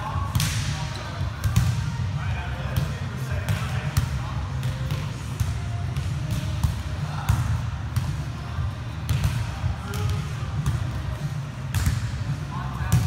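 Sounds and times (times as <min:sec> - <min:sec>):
volleyball slaps in a gym: 0:00.0 - 0:13.0.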